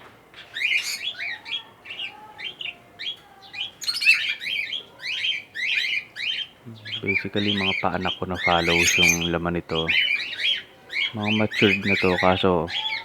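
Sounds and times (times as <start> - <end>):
parrots chirping shrilly: 0.5 - 1.6, 3.6 - 13.0.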